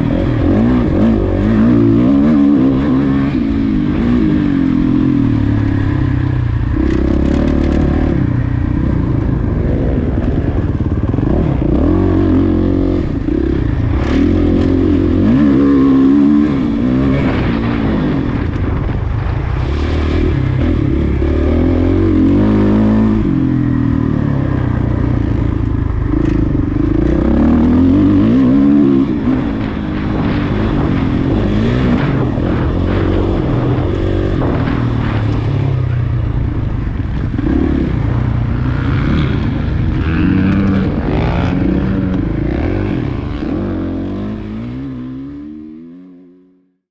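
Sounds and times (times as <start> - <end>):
motorcycle engine revving: 0.0 - 46.8.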